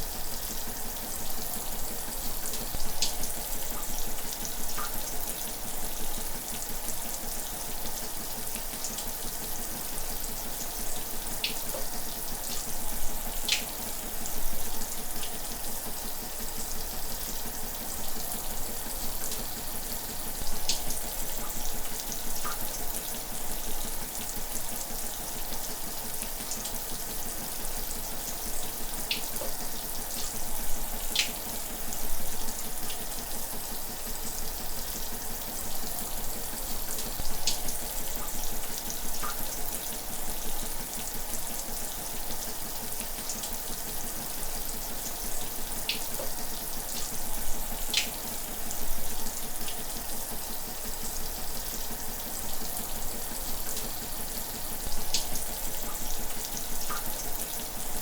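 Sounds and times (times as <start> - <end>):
shower water running: 0.0 - 58.0.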